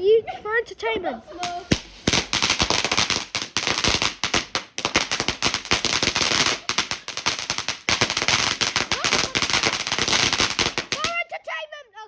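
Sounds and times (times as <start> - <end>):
crackling hiss: 1.4 - 11.2
firework cracks and bangs: 1.4 - 11.2.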